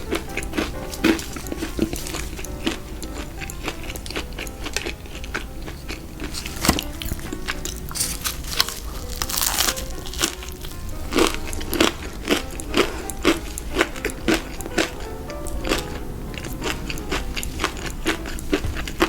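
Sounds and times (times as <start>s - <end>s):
crunchy food being chewed: 0.0s - 19.0s
soft background music: 0.0s - 19.0s.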